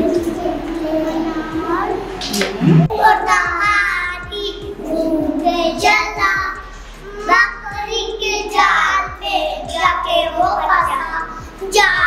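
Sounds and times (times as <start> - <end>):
young children singing: 0.0 - 12.0.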